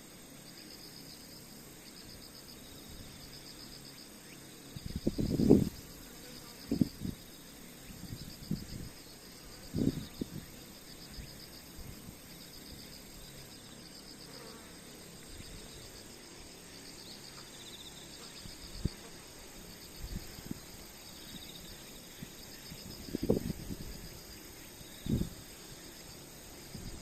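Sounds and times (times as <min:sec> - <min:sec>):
insects chirping in pulsing trill: 0:00.0 - 0:27.0.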